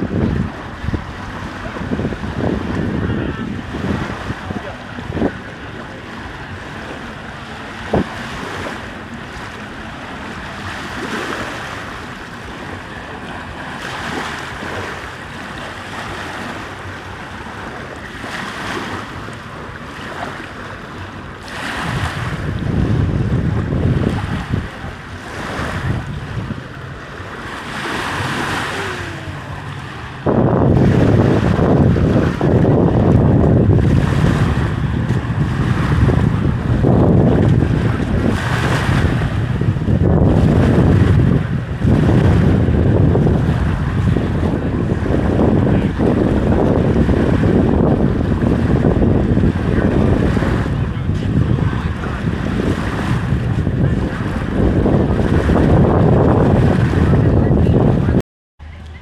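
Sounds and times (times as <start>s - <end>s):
lake waves washing: 0.0s - 59.0s
wind buffeting microphone: 0.0s - 59.0s.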